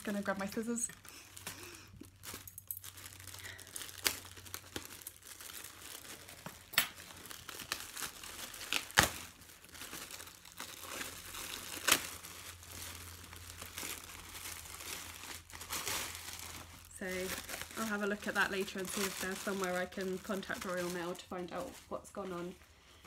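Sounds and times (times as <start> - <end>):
plastic wrapping crinkling and tearing: 0.0 - 23.0.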